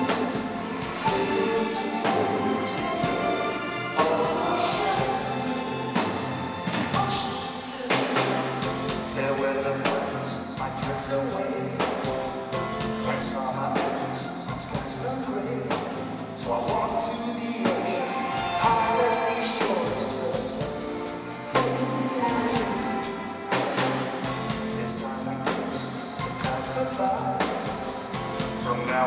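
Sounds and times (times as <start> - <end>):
man singing lead vocal: 0.0 - 6.2, 6.9 - 29.0
pop band with orchestra playing: 0.0 - 29.0.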